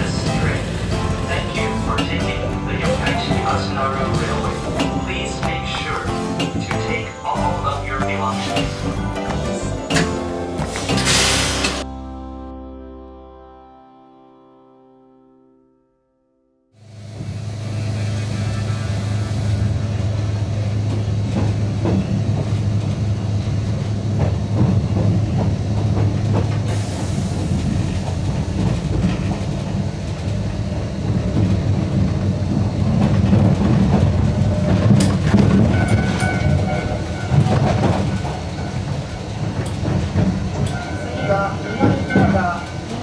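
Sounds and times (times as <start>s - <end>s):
train running gear hum: 0.0s - 11.8s, 16.8s - 43.0s
wheels clacking over rail joints: 0.0s - 11.8s, 19.5s - 43.0s.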